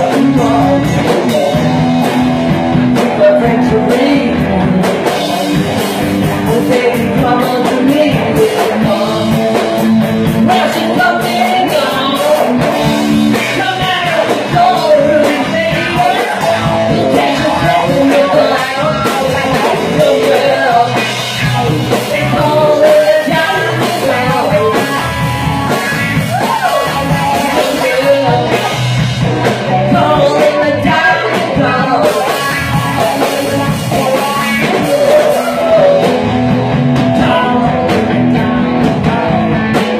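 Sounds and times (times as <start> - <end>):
drum kit: 0.0 - 39.9
electric guitars: 0.0 - 39.9
man singing into a microphone: 0.0 - 39.9.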